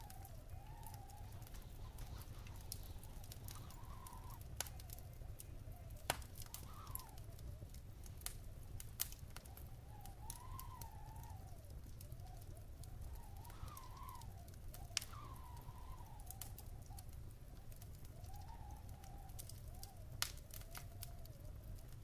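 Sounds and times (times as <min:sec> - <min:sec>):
steady low rumble: 0:00.0 - 0:20.2
faint whistling tone: 0:00.0 - 0:22.0
wood fire crackling and popping: 0:00.0 - 0:22.0.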